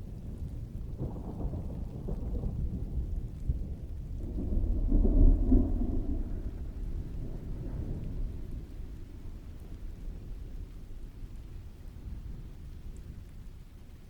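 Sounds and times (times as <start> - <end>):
heavy rain: 0.0 - 14.0
thunder rolling: 0.3 - 13.2.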